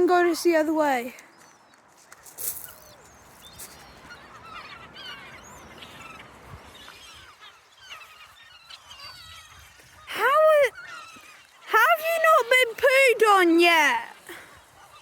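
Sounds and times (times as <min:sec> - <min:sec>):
seagulls calling: 0:00.0 - 0:15.0.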